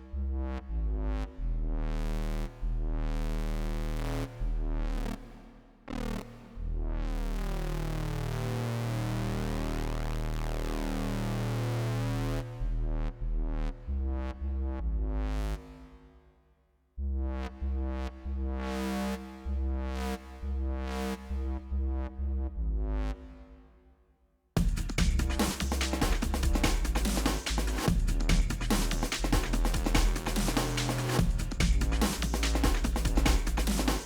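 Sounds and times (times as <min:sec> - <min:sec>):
repeated synth bass notes: 0:00.0 - 0:16.0, 0:17.0 - 0:23.6, 0:24.6 - 0:34.0.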